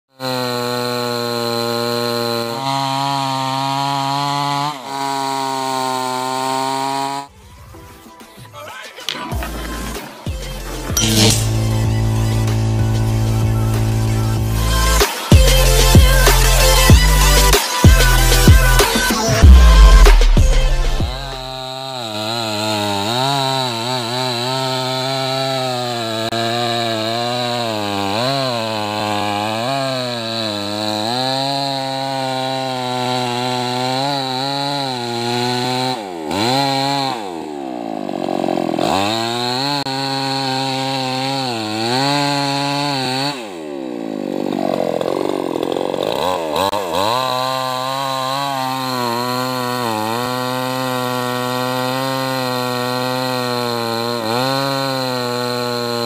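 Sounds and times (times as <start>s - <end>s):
chainsaw cutting tree trunk: 0.1s - 7.4s, 8.7s - 56.0s.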